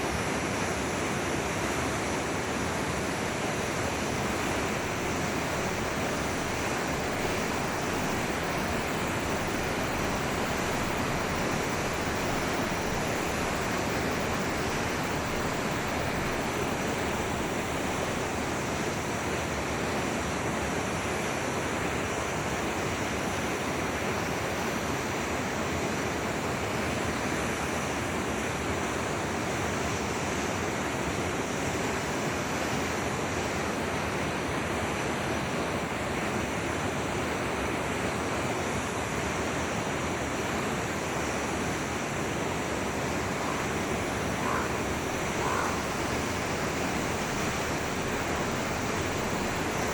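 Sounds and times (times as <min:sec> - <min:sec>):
river water flowing: 0:00.0 - 0:49.9.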